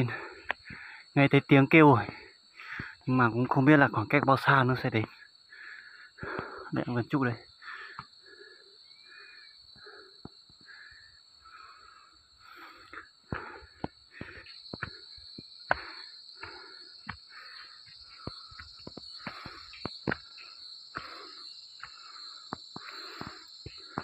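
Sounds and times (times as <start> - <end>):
person breathing heavily: 0.0 - 1.2, 2.0 - 3.1, 5.2 - 6.8, 7.5 - 24.0
high insect drone: 0.0 - 24.0.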